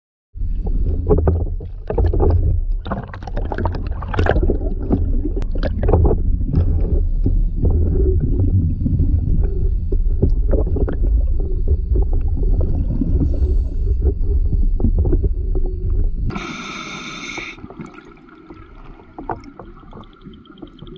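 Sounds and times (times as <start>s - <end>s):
bubbling and crackling: 0.4s - 20.9s
underwater rumble of moving water: 0.4s - 20.9s.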